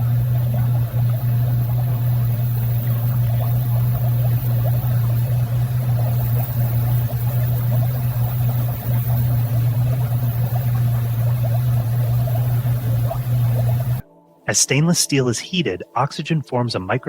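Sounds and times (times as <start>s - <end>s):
faint crackle: 0.0s - 14.1s
loud low hum: 0.0s - 14.6s.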